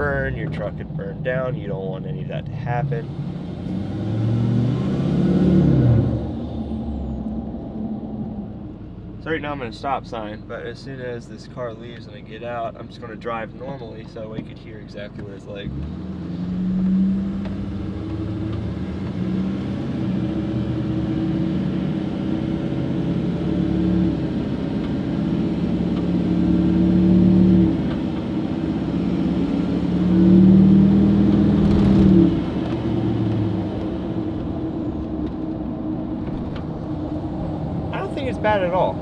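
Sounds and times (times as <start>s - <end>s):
diesel engine accelerating: 0.0s - 9.6s, 15.5s - 39.0s.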